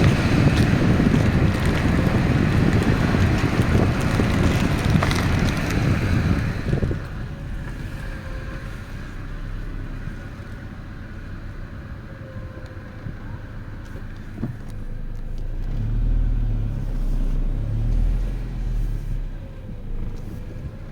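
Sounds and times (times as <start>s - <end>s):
car engine rumbling: 0.0s - 20.9s.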